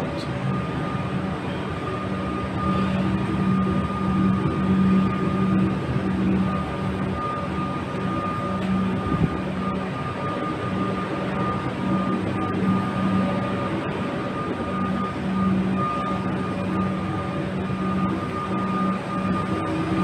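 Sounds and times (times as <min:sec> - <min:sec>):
electric train high whine: 0:00.0 - 0:20.0
train low hum: 0:00.0 - 0:20.0.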